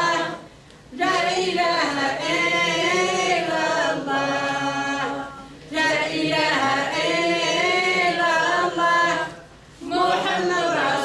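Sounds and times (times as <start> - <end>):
woman singing a chant: 0.0 - 11.0.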